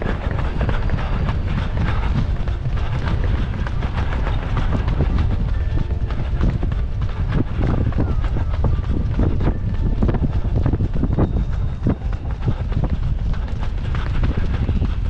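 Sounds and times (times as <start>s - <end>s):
running footsteps on a track: 0.0s - 15.0s
wind rumble on microphone: 0.0s - 15.0s.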